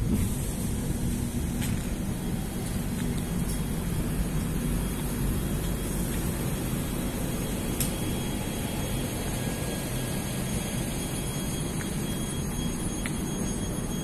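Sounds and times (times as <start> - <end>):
train engine rumble and hum: 0.0 - 14.0.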